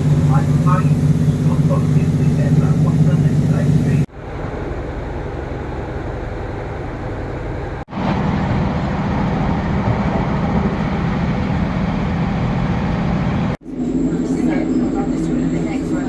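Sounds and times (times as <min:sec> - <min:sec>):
train running on track: 0:00.0 - 0:16.0.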